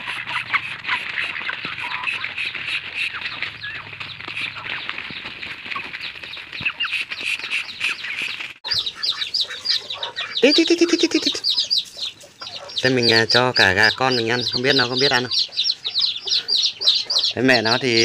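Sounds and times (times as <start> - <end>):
hens pecking on plastic sack: 0.0 - 16.6
hens calling: 0.0 - 18.0.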